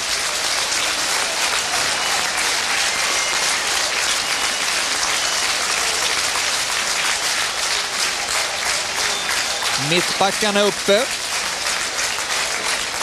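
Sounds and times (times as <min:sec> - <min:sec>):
stadium crowd cheering and clapping: 0:00.0 - 0:13.0.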